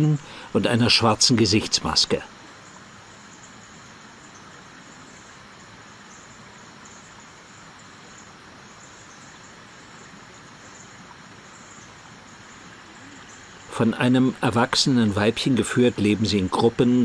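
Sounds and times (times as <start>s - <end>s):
insects chirring: 0.0s - 17.0s
soft hiss: 0.0s - 17.0s.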